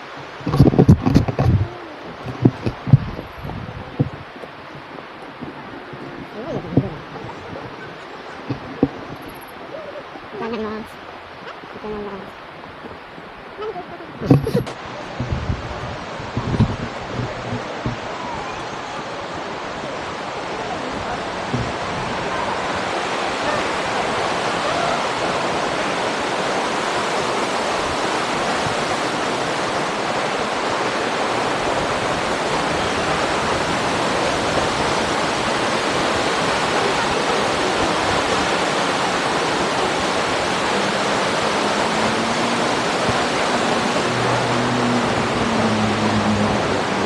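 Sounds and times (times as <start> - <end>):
heavy rushing water: 0.0 - 47.0.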